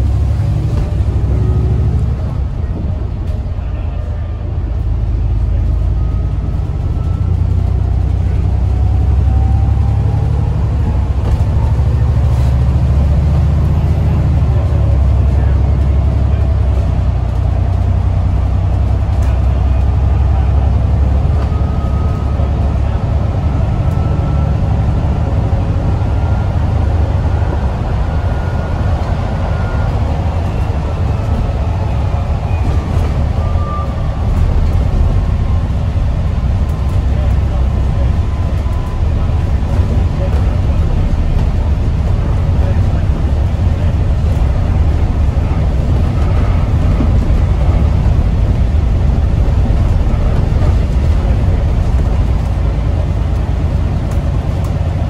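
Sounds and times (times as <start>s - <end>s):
bus engine rumble: 0.0s - 55.0s
road noise: 0.0s - 55.0s.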